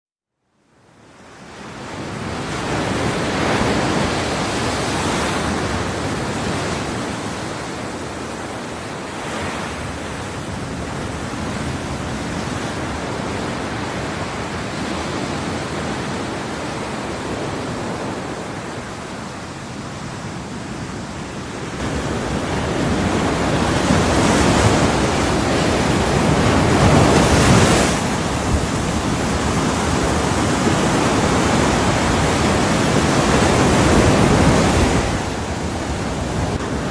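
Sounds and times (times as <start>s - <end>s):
ocean surf: 1.2s - 36.9s.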